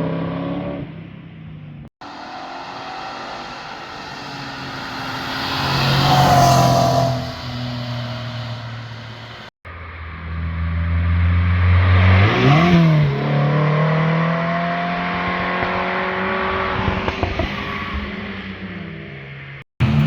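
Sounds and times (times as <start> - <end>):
car engine passing at speed: 2.0 - 9.5, 10.2 - 20.0.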